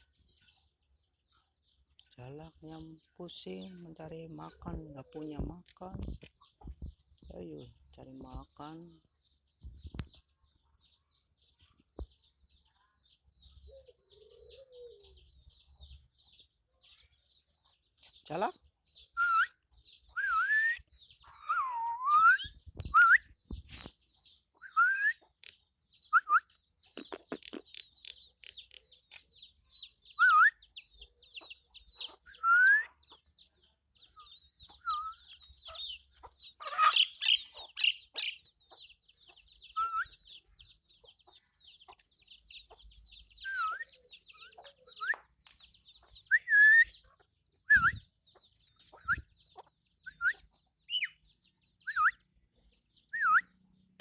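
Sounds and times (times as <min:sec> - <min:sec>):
chicks peeping: 0:00.0 - 0:54.0
high twittering of birds: 0:00.0 - 0:54.0.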